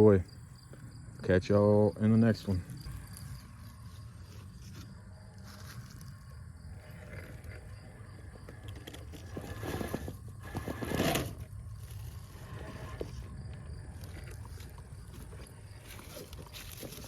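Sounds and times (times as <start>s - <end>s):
toy crawler scraping over rock: 3.2s - 17.0s.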